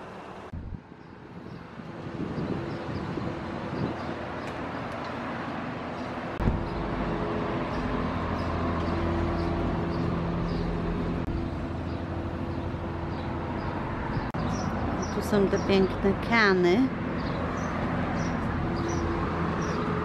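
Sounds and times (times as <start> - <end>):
traffic noise: 0.0 - 20.0
vehicle engine hum: 0.0 - 20.0.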